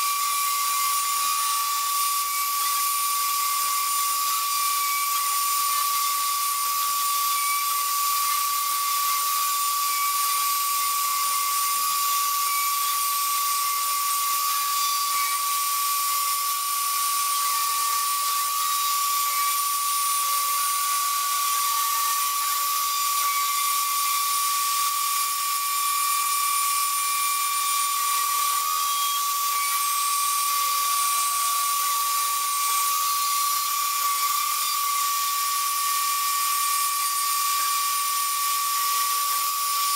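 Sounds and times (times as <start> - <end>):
router spindle high whine: 0.0 - 39.9.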